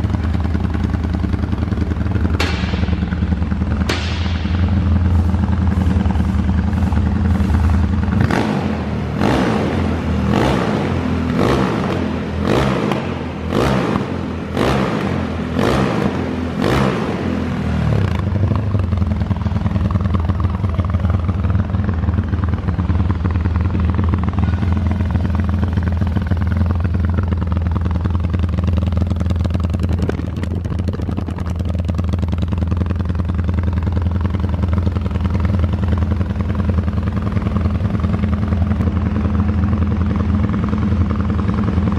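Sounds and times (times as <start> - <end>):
motorcycle engine idling: 0.0 - 41.9
motorcycle engine revving: 0.0 - 41.9.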